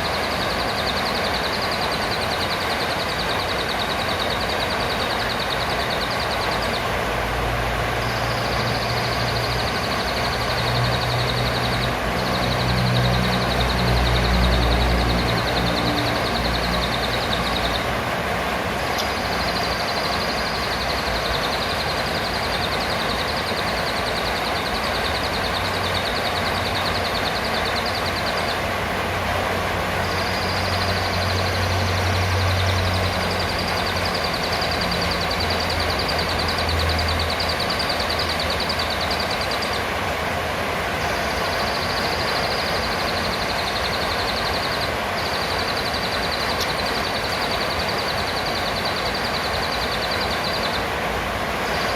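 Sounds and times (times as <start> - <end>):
steady background noise: 0.0 - 51.9.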